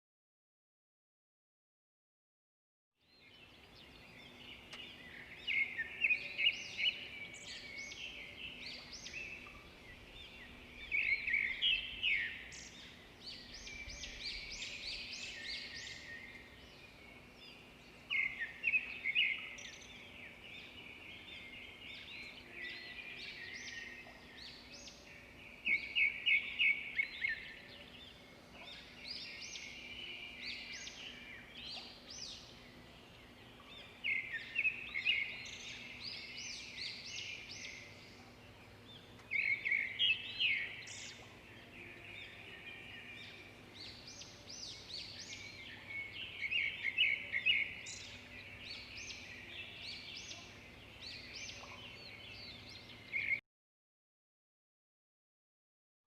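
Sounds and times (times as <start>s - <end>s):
songbirds singing and chirping: 3.0s - 53.4s.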